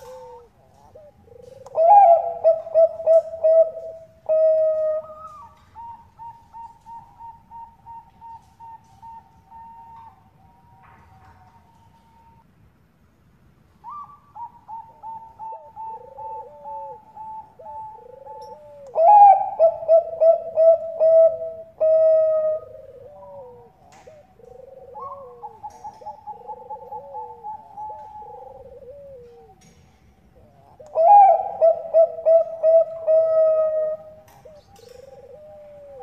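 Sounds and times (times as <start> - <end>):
doves cooing: 0.0 - 12.4, 13.8 - 36.0.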